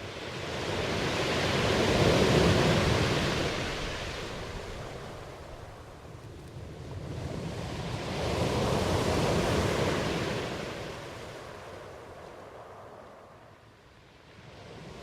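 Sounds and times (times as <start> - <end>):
ocean wave surging and washing: 0.0 - 6.1, 6.7 - 15.0.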